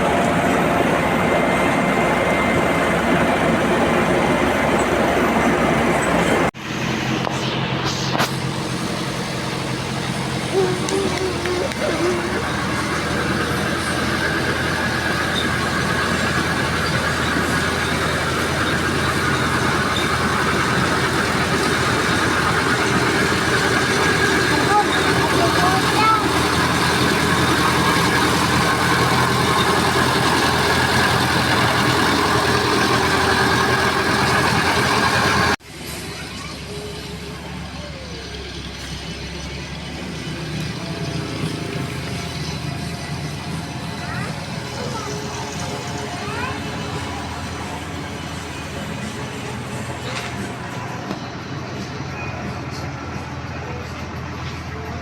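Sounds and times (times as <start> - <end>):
heavy machinery engines running: 0.0 - 55.0
road works noise: 0.0 - 55.0.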